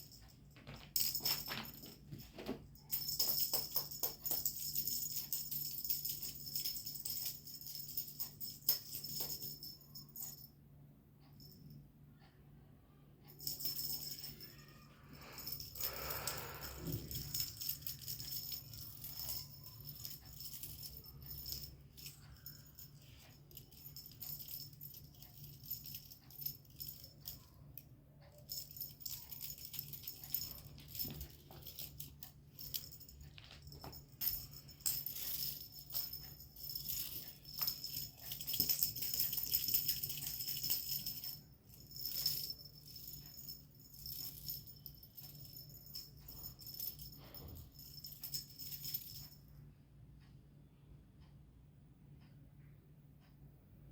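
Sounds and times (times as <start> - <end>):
jingling and rattling clicks: 0.0 - 10.5, 15.3 - 27.6, 28.3 - 49.4
steady low hum: 0.0 - 53.9.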